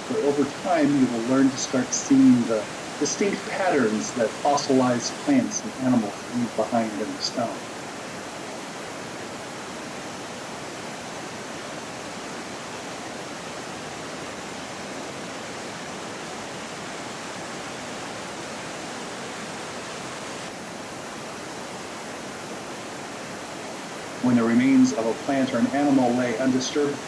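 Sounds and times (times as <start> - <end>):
stream flowing over rocks: 0.0 - 27.0.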